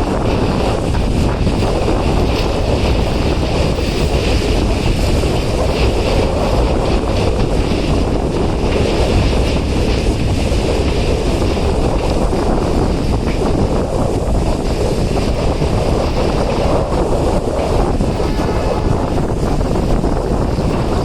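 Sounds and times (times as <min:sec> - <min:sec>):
train rumbling: 0:00.0 - 0:21.0
wind buffeting microphone: 0:00.0 - 0:21.0.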